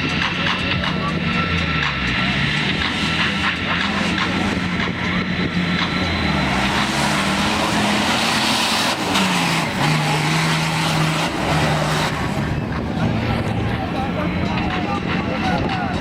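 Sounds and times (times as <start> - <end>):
off-road vehicle engines revving: 0.0 - 16.0.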